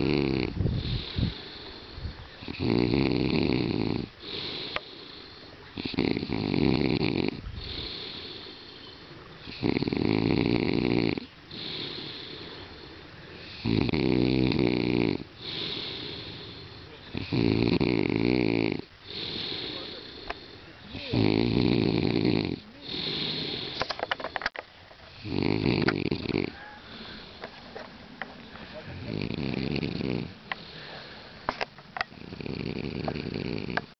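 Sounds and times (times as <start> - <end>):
quiet breathing: 0.0 - 2.6, 3.8 - 6.4, 7.3 - 9.8, 11.1 - 17.6, 18.8 - 32.4
man snoring loudly: 0.0 - 8.8, 9.4 - 23.8, 25.2 - 27.3, 29.0 - 30.9, 32.2 - 33.9.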